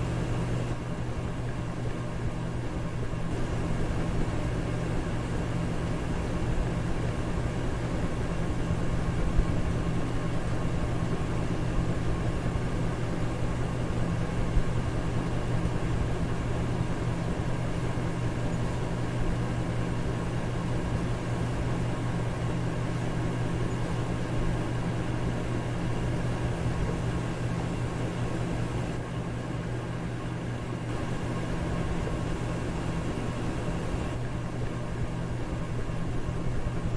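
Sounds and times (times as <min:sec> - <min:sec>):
electric fan running: 0:00.0 - 0:36.9.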